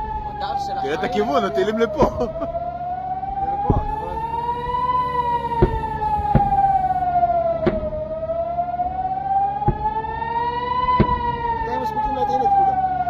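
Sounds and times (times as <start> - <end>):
warning siren wailing: 0.0 - 13.0.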